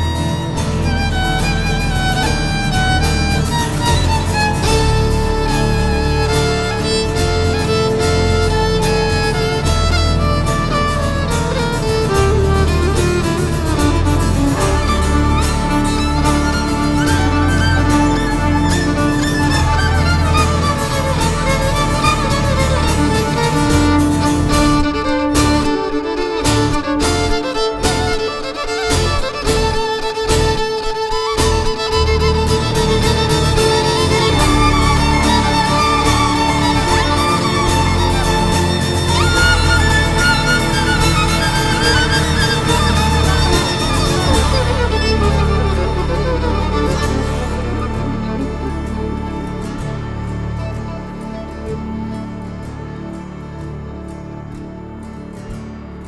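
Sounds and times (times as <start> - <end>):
bass guitar: 0.0 - 28.2, 28.9 - 30.7, 31.3 - 56.0
guitar accompaniment: 0.0 - 56.0
violin playing sliding notes: 0.0 - 56.0.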